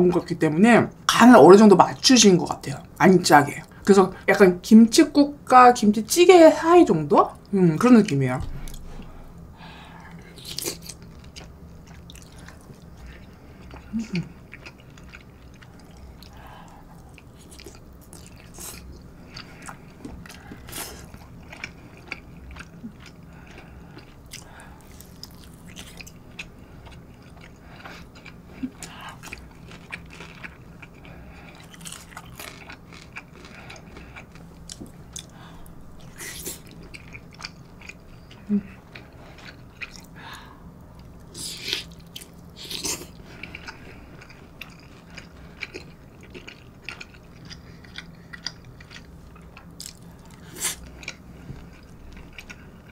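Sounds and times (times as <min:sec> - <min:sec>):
person chewing wetly: 0:08.5 - 0:09.5, 0:10.2 - 0:52.9.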